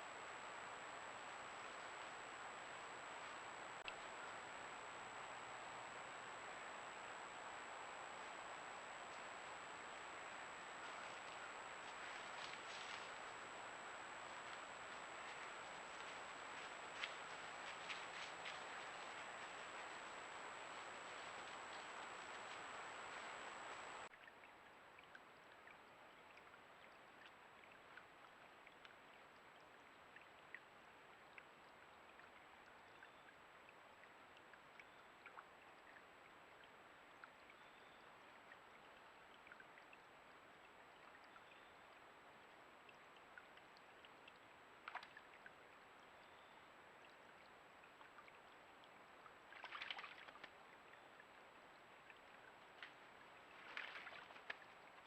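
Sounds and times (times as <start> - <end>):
creek water trickling: 0.0 - 55.0.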